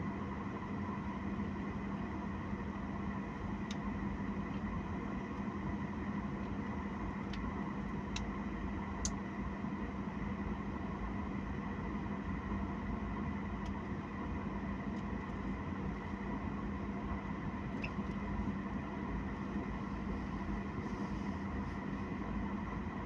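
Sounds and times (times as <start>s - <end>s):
airliner cabin hum: 0.0s - 23.0s.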